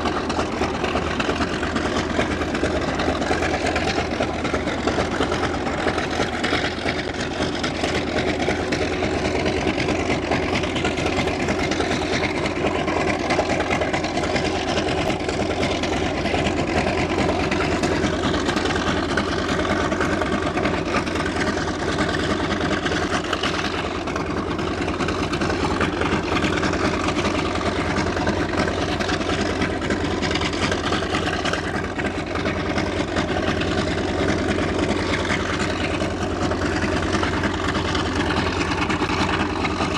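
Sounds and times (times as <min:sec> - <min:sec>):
radial aircraft engine idling: 0:00.0 - 0:39.9.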